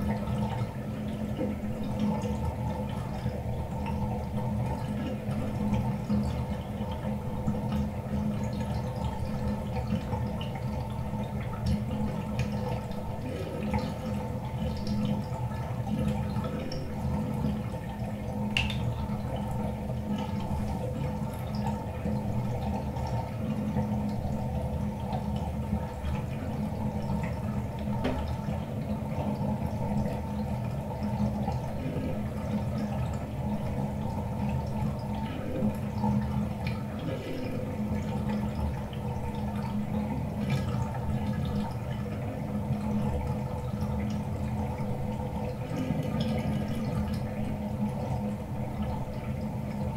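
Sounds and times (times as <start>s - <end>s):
water running down drain: 0.0s - 49.9s.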